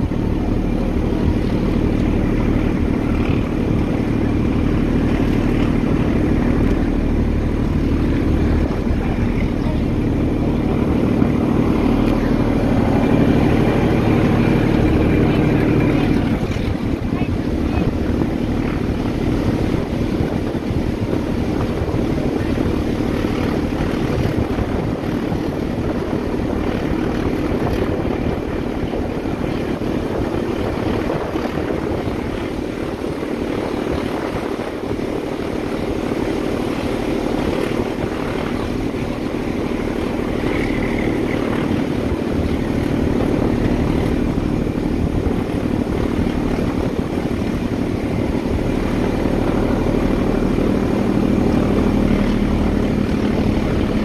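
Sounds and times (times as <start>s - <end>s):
diesel locomotive engine drone: 0.0s - 54.0s
rush of moving train: 0.0s - 54.0s.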